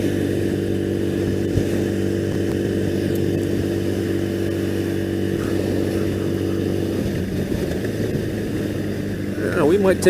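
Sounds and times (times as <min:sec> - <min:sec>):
motorcycle engine cruising: 0:00.0 - 0:10.0.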